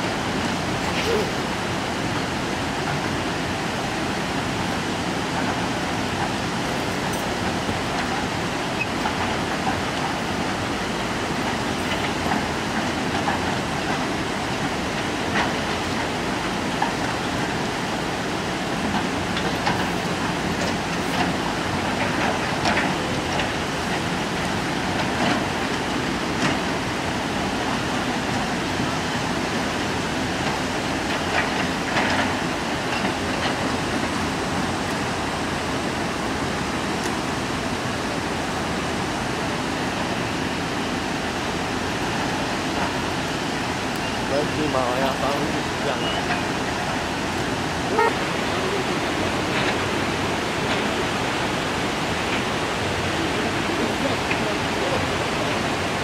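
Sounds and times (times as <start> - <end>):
excavator engine working: 0.0 - 56.0
river rushing: 0.0 - 56.0.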